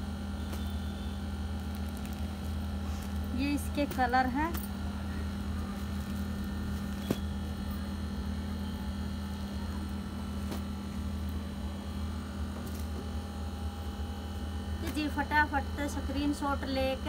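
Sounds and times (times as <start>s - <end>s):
faint whine tones: 0.0s - 17.0s
low electrical hum: 0.0s - 17.0s.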